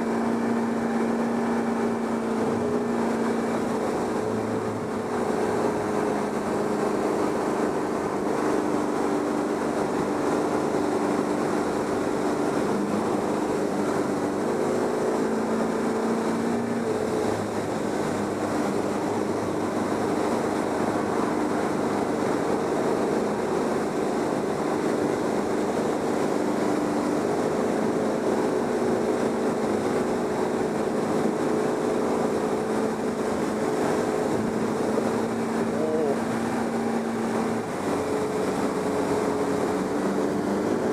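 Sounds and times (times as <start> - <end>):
motorboat engine running: 0.0 - 40.9
rushing water and wind: 0.0 - 40.9.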